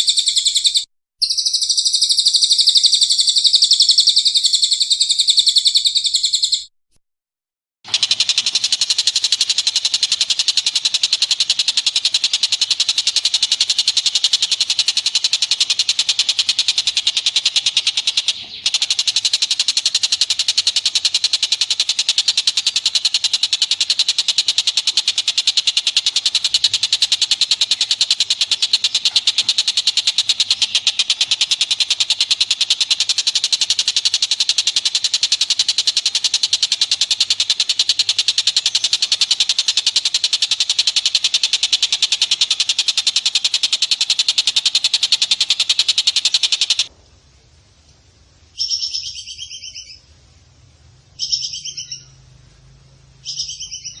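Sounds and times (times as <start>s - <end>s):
animal chattering high notes: 0.0s - 6.6s, 7.9s - 46.9s.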